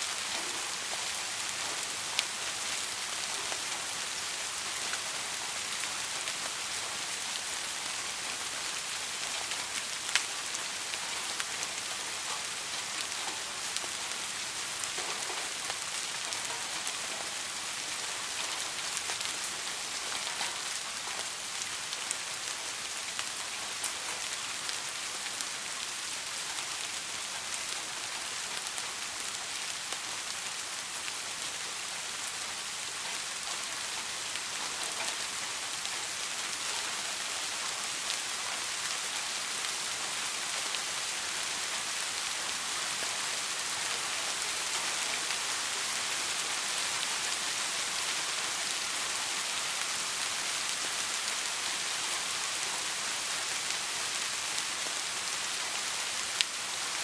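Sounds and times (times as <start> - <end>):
soft rain: 0.0 - 57.0.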